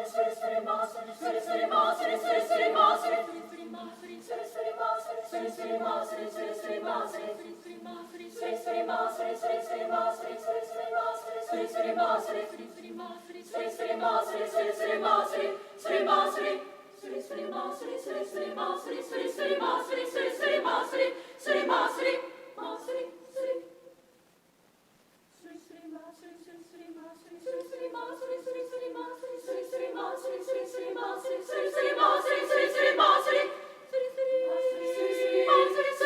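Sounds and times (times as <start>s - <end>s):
women's choir singing: 0.0s - 24.0s, 25.4s - 36.0s.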